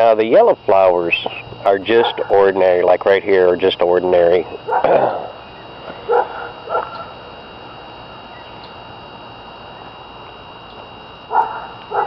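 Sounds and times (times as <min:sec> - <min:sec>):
faint high-pitched whine: 0:00.0 - 0:12.0
steady background hiss: 0:00.0 - 0:12.0.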